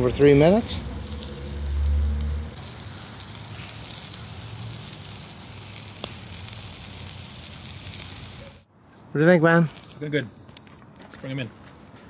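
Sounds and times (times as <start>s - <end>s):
steaks sizzling on charcoal: 0.0s - 8.7s, 9.4s - 11.4s.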